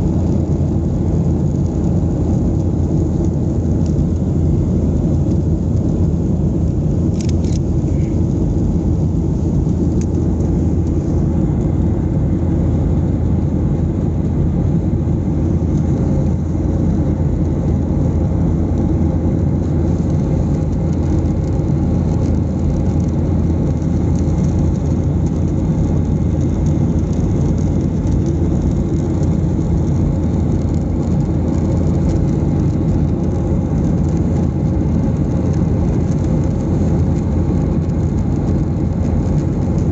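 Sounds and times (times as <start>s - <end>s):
airplane engines and airflow rumble: 0.0s - 39.9s.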